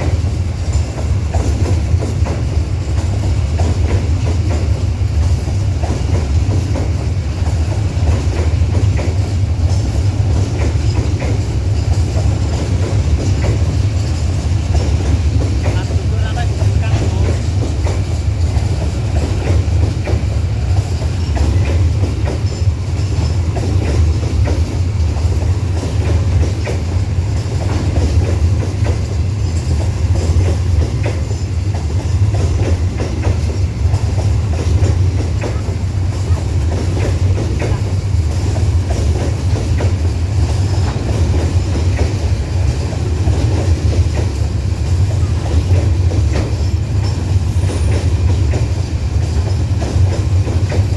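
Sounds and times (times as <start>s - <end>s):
train wagons rumbling on rails: 0.0s - 50.9s
train wheel clicks: 0.0s - 50.9s.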